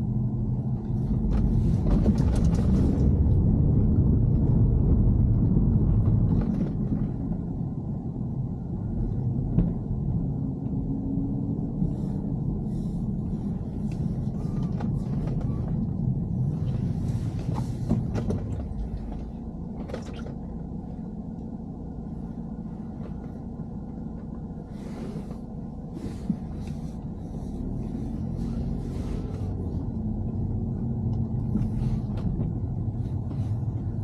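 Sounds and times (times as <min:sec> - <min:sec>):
car cabin rumble: 0:00.0 - 0:34.0.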